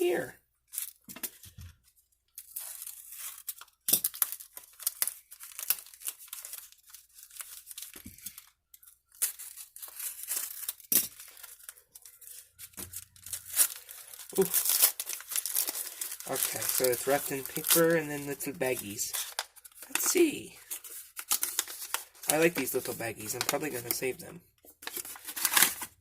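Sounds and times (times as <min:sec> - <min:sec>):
paper being torn and crumpled: 0:02.4 - 0:08.5, 0:09.1 - 0:24.1, 0:24.8 - 0:26.0.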